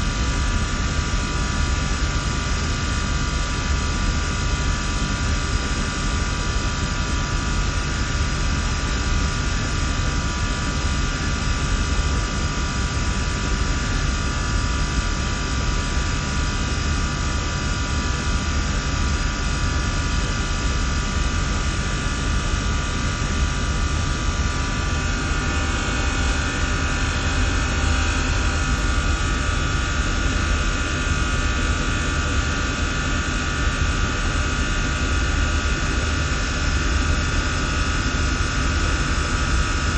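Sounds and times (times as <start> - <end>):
hvac machinery rush and hum: 0.0 - 39.9.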